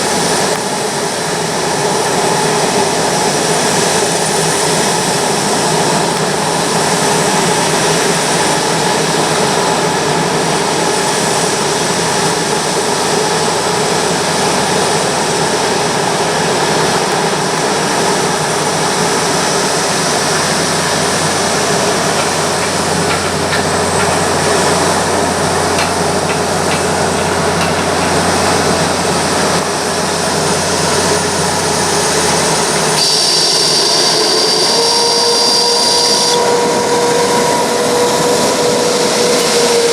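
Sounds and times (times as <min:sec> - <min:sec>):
high whine: 0:00.0 - 0:39.9
jet engines roaring: 0:00.0 - 0:39.9.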